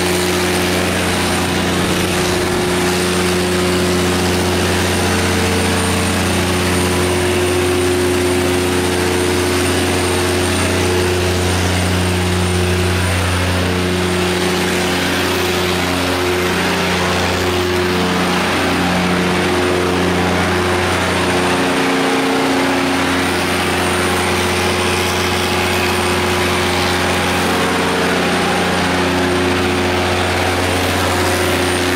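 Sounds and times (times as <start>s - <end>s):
diesel generator engine running: 0.0s - 31.9s.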